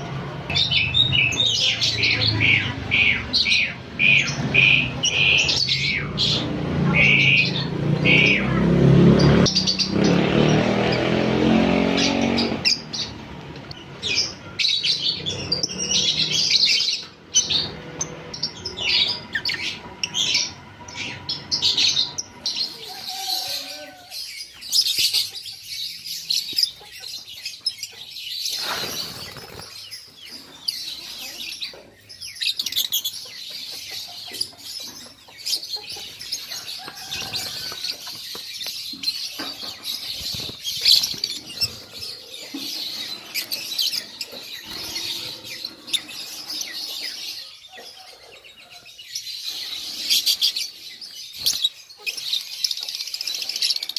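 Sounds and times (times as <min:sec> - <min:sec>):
birds chirping and chattering: 0:00.0 - 0:53.9.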